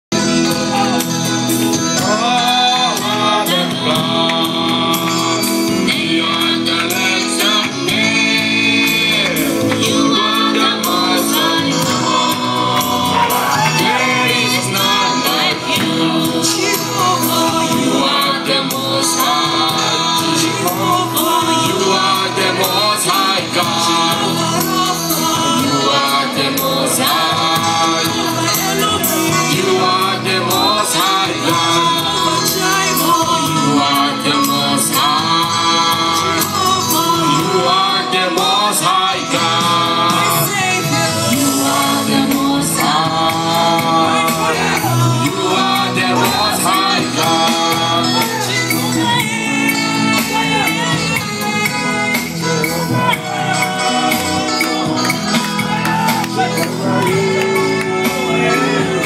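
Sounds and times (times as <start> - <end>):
gospel singing over a band: 0.1 - 59.0.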